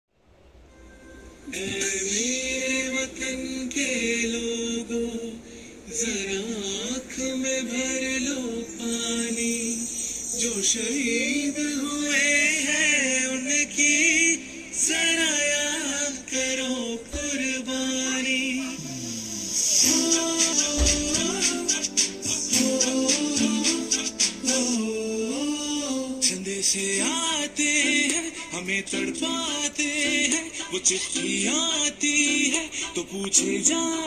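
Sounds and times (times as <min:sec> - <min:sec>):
person singing with backing music: 0:01.4 - 0:34.0.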